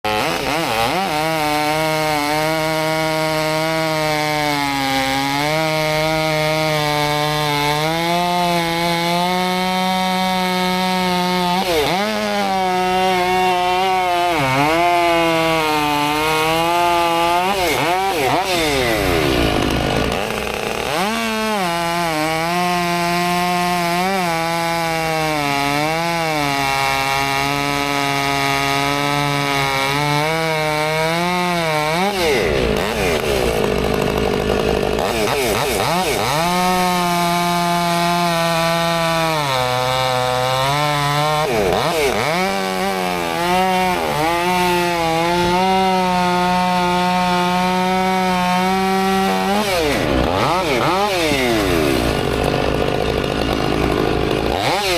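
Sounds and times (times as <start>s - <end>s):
chainsaw cutting firewood: 0.0s - 54.9s.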